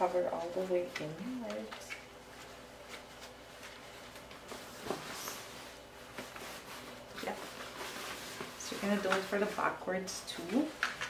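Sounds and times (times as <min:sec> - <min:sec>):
fabric cover rustling: 0:00.0 - 0:11.0.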